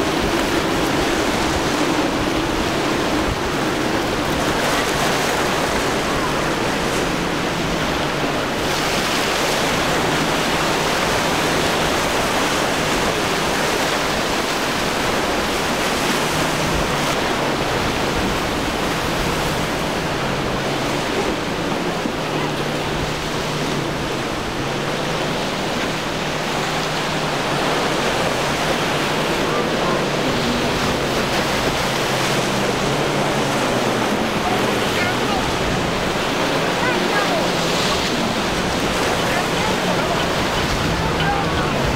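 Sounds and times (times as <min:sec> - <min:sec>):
outboard motor humming: 0:00.0 - 0:41.9
surf rushing: 0:00.0 - 0:41.9
wind: 0:00.0 - 0:41.9.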